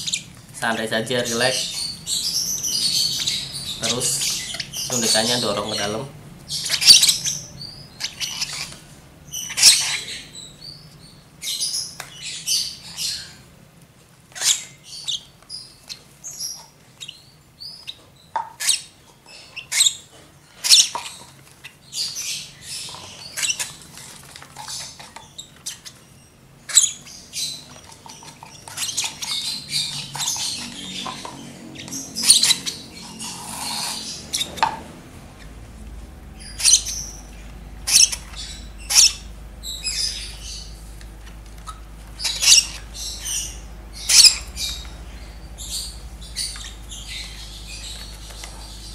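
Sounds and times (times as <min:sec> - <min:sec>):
bird chicks chirping and squawking: 0:00.0 - 0:13.6, 0:14.2 - 0:48.9.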